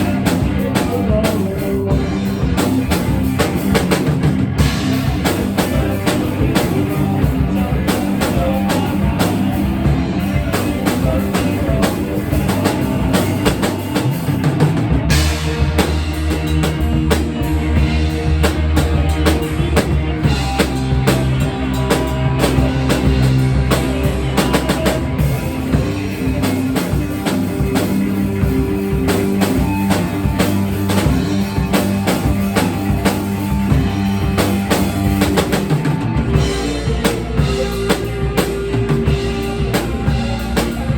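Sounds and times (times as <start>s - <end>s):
heavy low bass: 0.0s - 40.9s
rock band playing: 0.0s - 40.9s.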